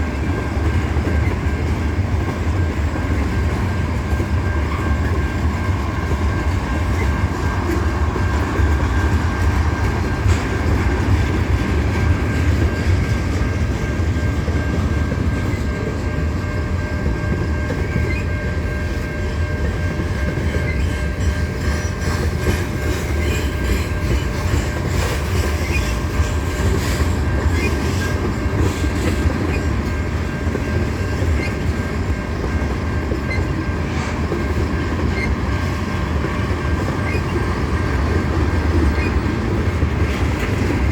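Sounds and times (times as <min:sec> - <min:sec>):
freight train rolling past: 0:00.0 - 0:40.9
wheels clacking over rail joints: 0:00.0 - 0:40.9.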